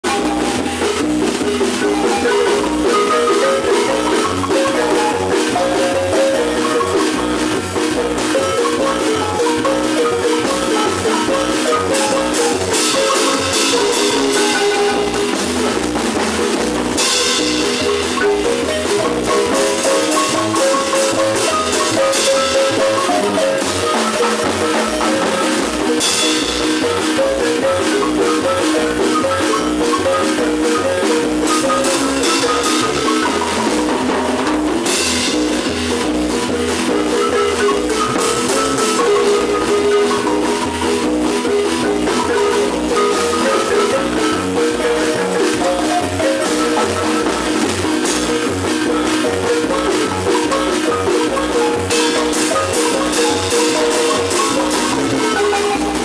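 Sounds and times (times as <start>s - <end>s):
drum kit beat: 0.0s - 56.0s
marimba playing: 0.0s - 56.0s.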